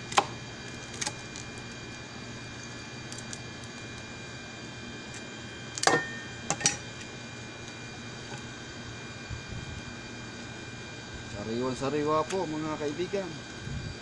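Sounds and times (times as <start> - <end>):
background hiss and hum: 0.0 - 14.0.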